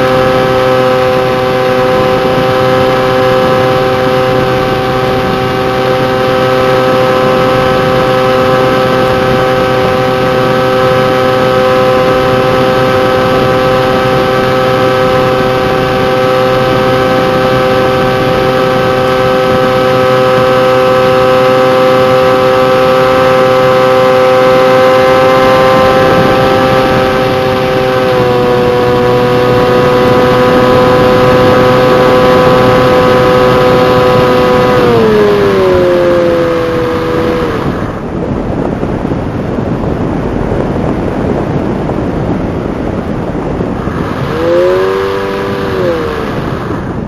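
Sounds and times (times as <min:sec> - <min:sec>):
model plane electric motor whine: 0:00.0 - 0:38.2, 0:40.2 - 0:47.0.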